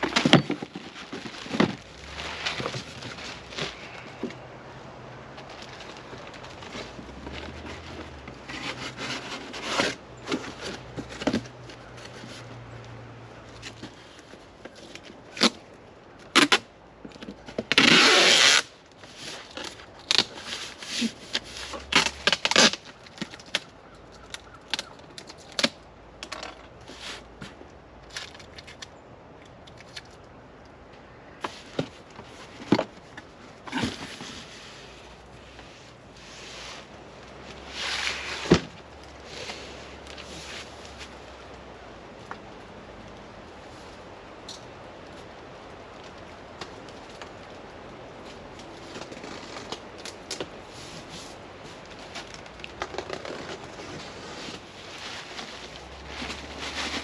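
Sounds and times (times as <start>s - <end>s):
hands handling packaging: 0.0s - 30.8s, 31.4s - 57.0s.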